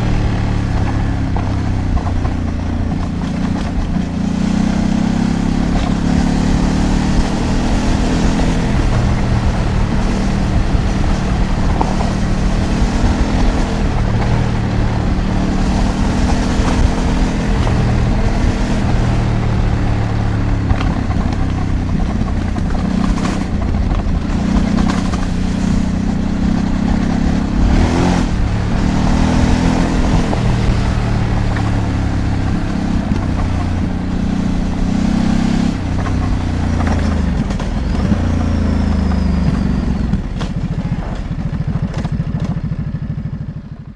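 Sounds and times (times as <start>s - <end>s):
wind noise: 0.0s - 41.3s
tyre noise: 0.0s - 42.9s
motorcycle engine revving: 0.0s - 43.9s.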